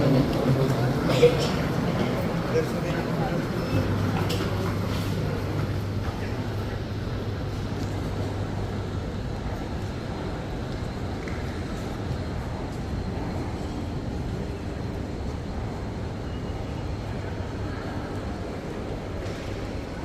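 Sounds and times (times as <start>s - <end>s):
low hum and rumble: 0.0s - 20.0s.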